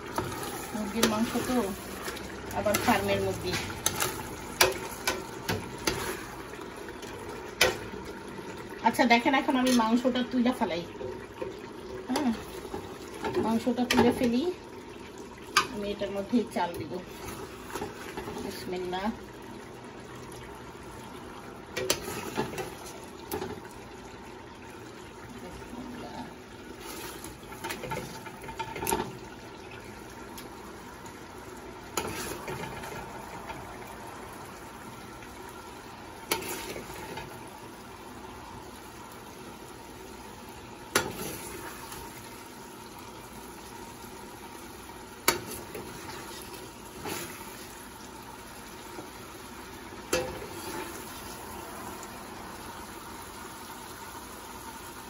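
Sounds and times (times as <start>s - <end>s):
pot simmering: 0.0s - 55.0s.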